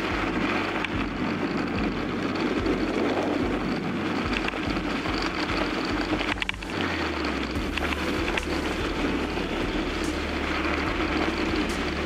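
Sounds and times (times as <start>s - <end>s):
bicycle tyres on dirt road: 0.0s - 12.0s
sharp rattles: 0.0s - 12.0s
wind buffeting microphone: 0.0s - 12.0s.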